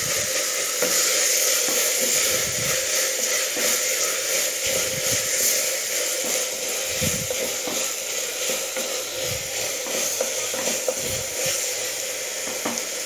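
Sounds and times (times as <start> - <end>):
steady hiss: 0.0 - 13.0
vegetables sizzling in a pot: 0.0 - 13.0.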